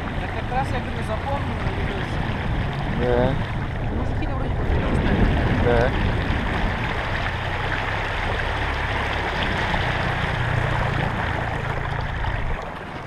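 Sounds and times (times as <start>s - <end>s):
outboard motor running: 0.0s - 13.0s
water rushing past hull: 0.0s - 13.0s.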